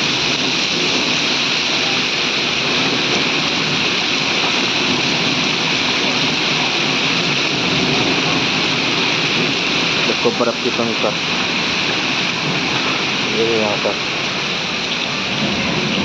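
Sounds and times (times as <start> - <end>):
heavy rain with hail: 0.0 - 16.0.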